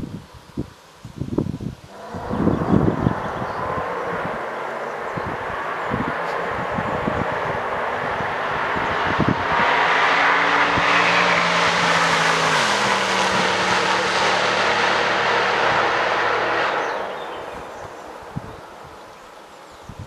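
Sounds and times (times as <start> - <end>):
car engine revving with exhaust roar: 1.8 - 19.8.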